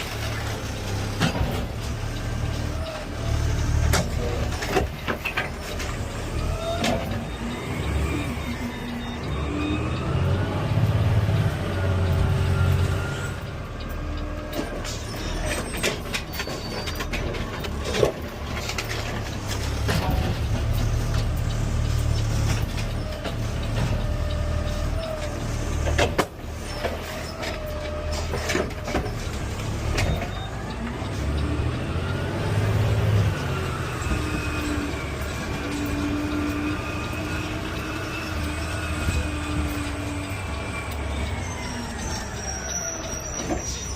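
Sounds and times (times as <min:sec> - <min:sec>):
engine whines: 0:00.0 - 0:43.9
truck engine rumble: 0:00.0 - 0:43.9.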